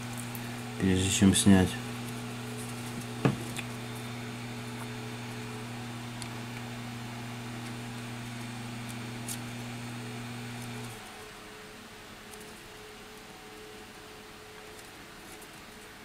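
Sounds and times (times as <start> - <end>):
electric hum of bench machine: 0.0 - 14.6.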